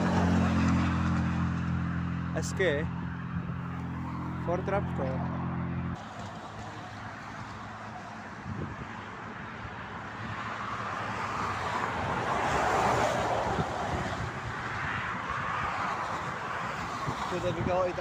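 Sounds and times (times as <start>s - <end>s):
motorway traffic passing: 0.0s - 18.0s.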